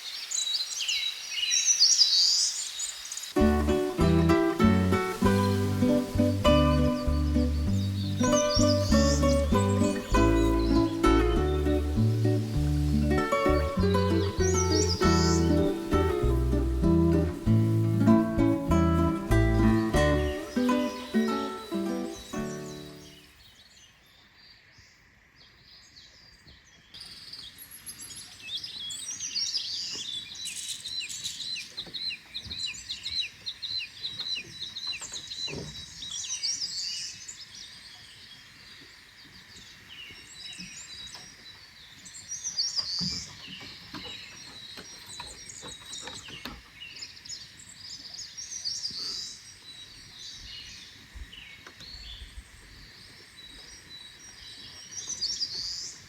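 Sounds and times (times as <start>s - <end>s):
songbirds chirping and calling: 0.0s - 56.0s.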